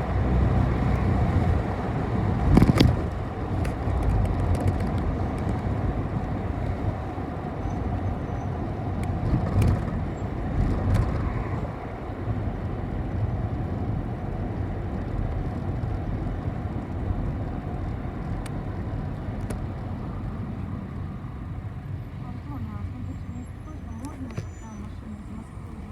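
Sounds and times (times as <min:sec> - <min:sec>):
bus engine and road rumble: 0:00.0 - 0:25.9.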